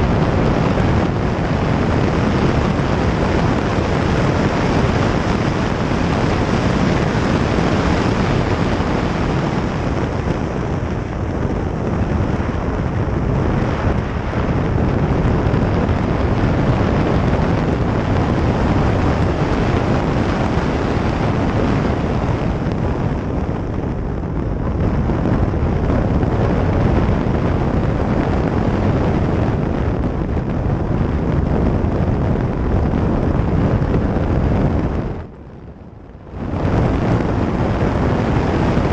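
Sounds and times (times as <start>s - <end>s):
wind rush on microphone: 0.0s - 38.9s.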